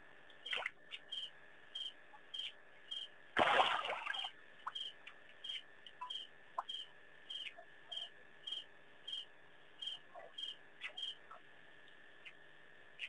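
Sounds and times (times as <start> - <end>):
cricket chirping: 0.4 - 13.0.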